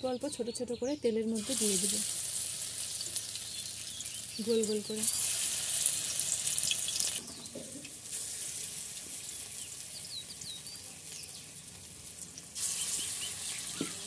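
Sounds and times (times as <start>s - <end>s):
food deep-frying in oil: 1.3s - 14.0s.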